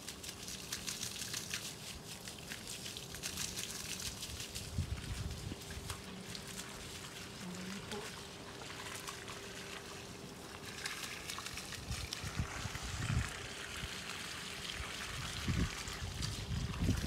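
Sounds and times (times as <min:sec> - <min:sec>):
hose water splashing on soil: 0:00.0 - 0:17.0.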